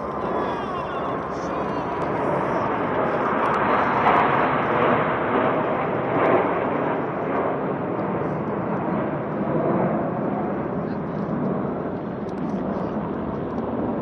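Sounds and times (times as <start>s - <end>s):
fighter jets passing overhead: 0.0s - 14.0s.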